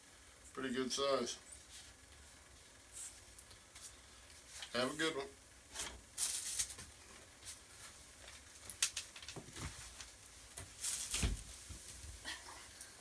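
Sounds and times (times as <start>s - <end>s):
rustling of handled objects: 1.5s - 4.9s, 5.7s - 13.0s.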